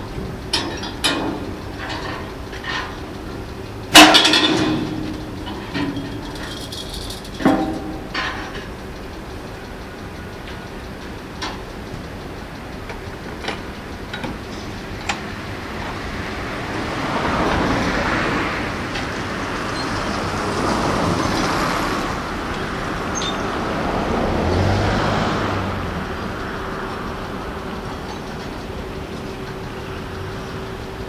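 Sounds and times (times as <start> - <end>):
tram pantograph metal clanks: 0.0 - 31.0.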